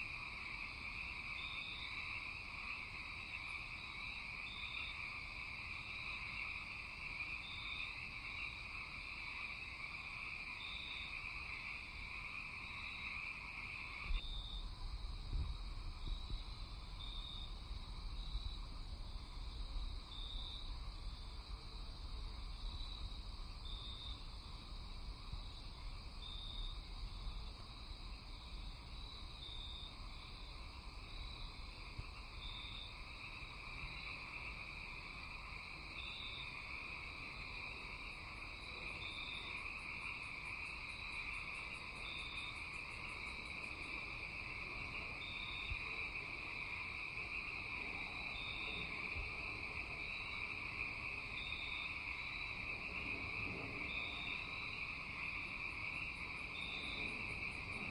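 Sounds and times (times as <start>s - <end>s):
crickets chirping: 0.0s - 57.9s
high insect drone: 0.0s - 57.9s.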